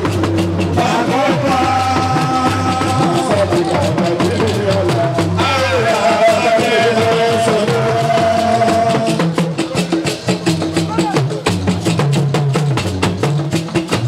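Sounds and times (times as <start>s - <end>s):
steady drumming: 0.0s - 14.0s.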